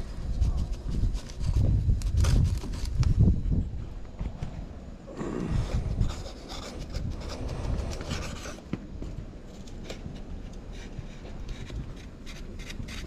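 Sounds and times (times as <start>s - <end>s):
scraping and rubbing: 0.0s - 3.4s, 5.1s - 13.0s.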